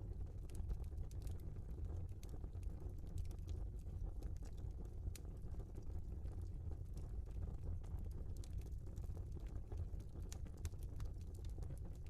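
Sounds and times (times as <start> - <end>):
logs burning with crackles: 0.0 - 12.0.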